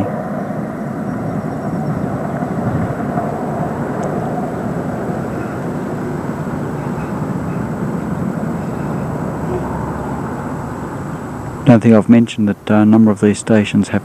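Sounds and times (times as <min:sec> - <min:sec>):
light rail car rumbling: 0:00.0 - 0:14.0.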